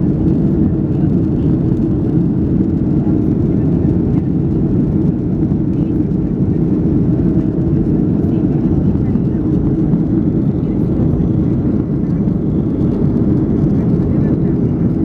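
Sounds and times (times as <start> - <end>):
airliner cabin roar in flight: 0.0 - 15.0.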